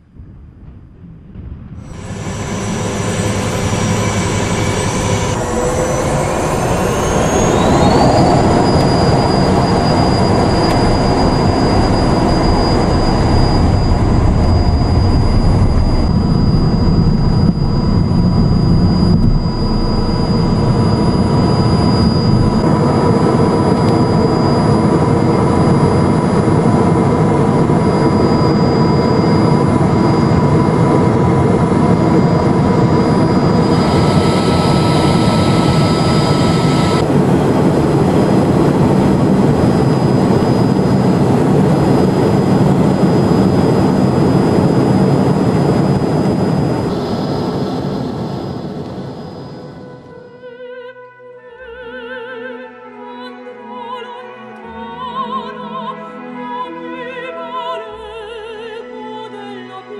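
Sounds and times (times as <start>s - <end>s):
loud rumble of takeoff run: 0.0s - 50.3s
jet engines whining: 0.0s - 50.5s.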